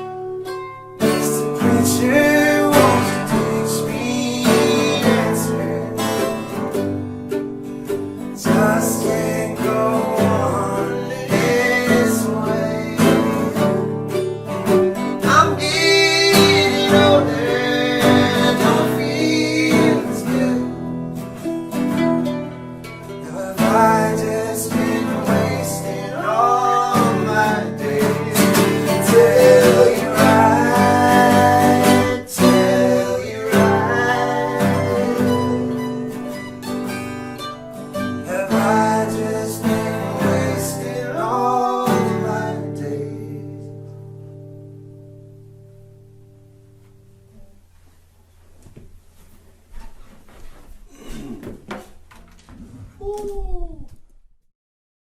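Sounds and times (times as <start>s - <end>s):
acoustic guitar plucked and strummed: 0.0s - 52.6s.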